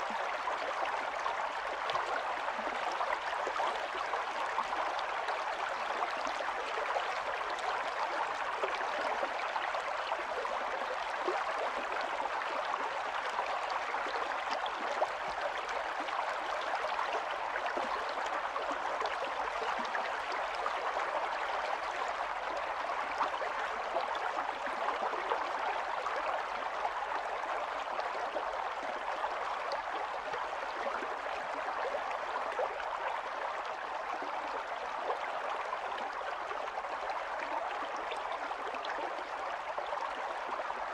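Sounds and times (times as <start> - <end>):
stream water babbling over stones: 0.0 - 40.9.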